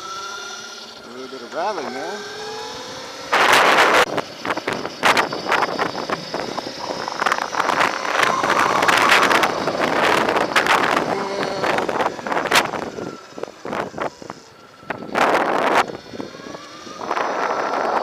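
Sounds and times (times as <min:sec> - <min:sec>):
wind buffeting microphone: 0:03.0 - 0:18.0.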